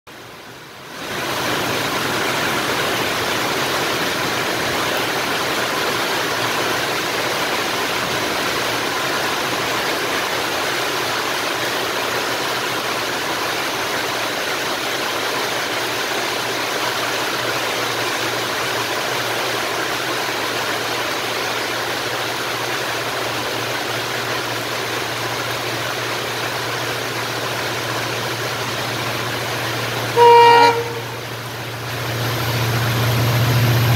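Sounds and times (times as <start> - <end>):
heavy rain pouring: 0.1 - 33.9
train locomotive hum: 0.1 - 33.9.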